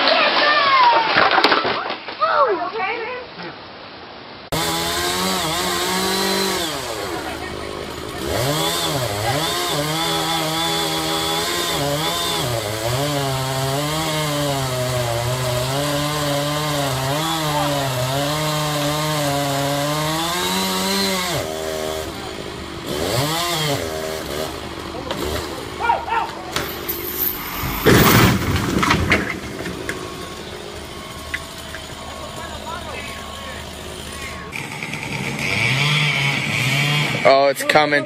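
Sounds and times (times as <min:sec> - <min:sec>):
chainsaw cutting wood: 0:04.5 - 0:37.4.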